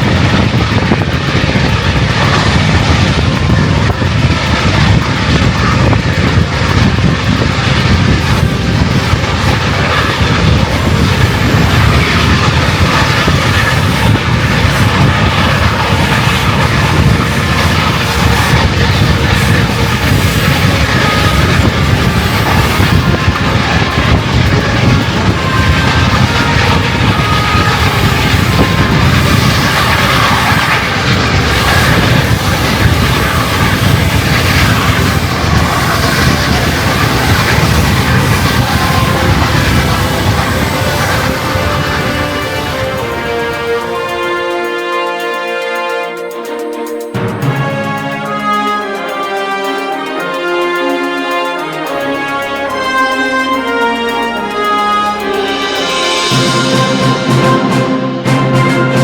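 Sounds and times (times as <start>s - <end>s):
train rumbling on board: 0.0s - 59.0s.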